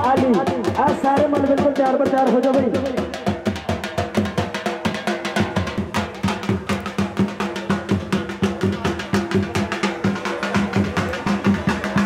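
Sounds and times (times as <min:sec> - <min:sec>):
dhol drums beating: 0:00.0 - 0:12.0.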